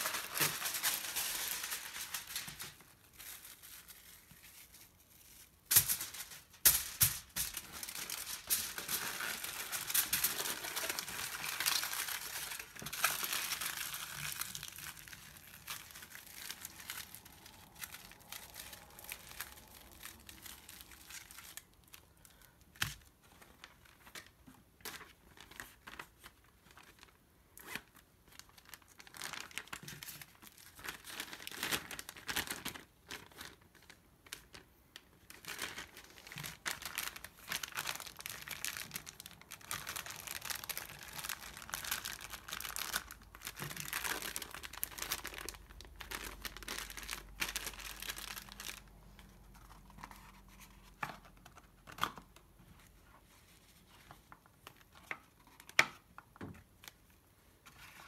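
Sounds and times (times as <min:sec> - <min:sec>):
plastic bag crinkling: 0:00.0 - 0:52.3.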